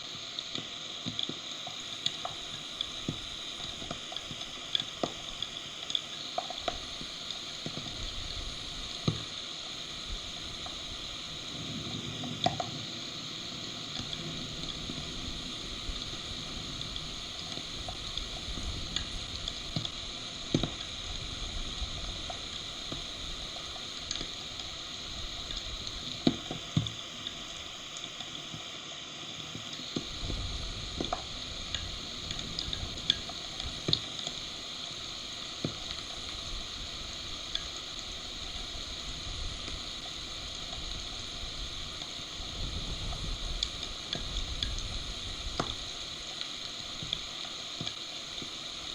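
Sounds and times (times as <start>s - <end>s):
raindrops ticking close by: 0.1s - 28.7s, 29.4s - 48.9s
heavy rain pouring: 6.6s - 27.9s, 29.8s - 48.9s.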